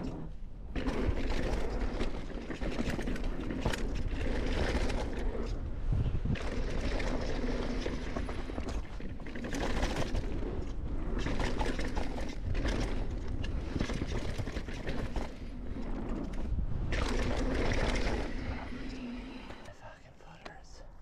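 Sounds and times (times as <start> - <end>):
bike clattering and rattling: 0.0 - 18.8
wind on microphone: 0.0 - 19.7
tyres on dirt and rocks: 0.0 - 20.6.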